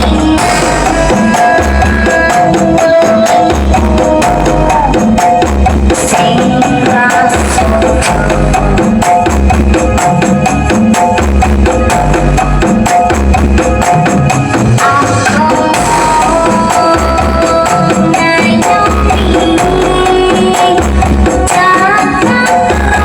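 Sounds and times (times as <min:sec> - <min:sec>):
heavy bass beat: 0:00.0 - 0:23.0
loud music from loudspeakers: 0:00.0 - 0:23.0
tambourine-like percussion: 0:00.0 - 0:23.0.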